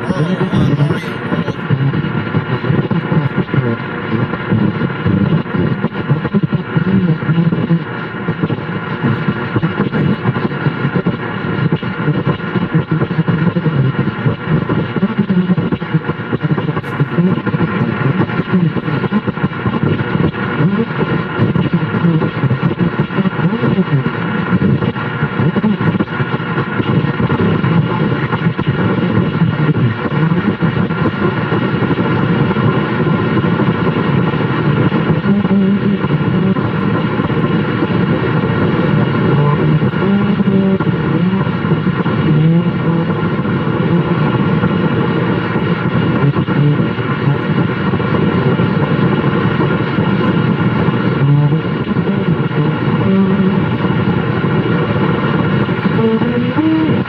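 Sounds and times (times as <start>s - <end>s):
faint steady tones: 0.0s - 5.3s, 6.0s - 57.0s
radio static crackle: 0.0s - 57.0s.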